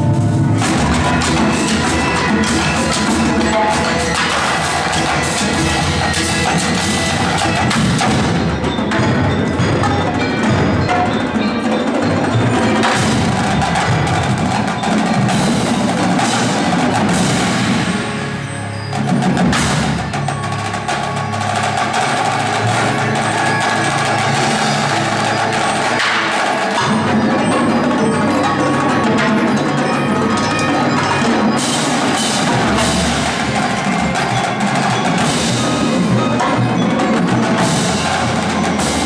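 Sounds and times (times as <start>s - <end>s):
marching drums: 0.0s - 39.0s
marimbas playing: 0.0s - 39.0s.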